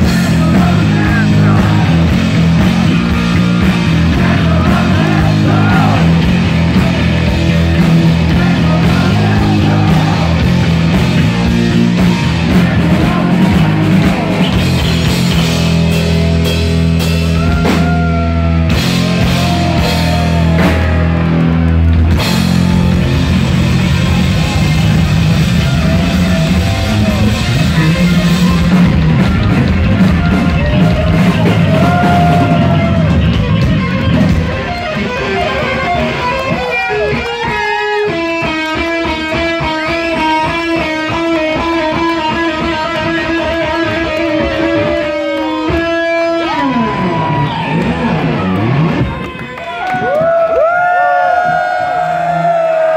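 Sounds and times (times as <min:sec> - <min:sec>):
heavy metal band playing live: 0:00.0 - 0:50.3.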